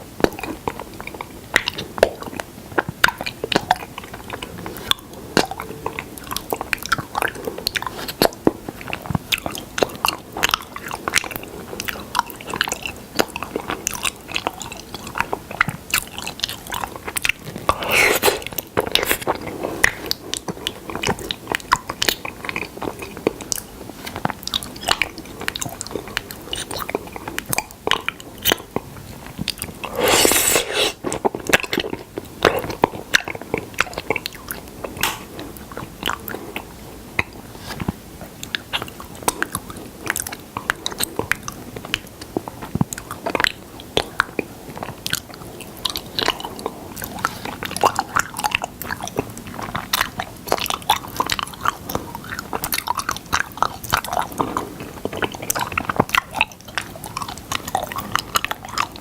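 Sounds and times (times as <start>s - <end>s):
mouth chewing and smacking: 0.0s - 59.0s.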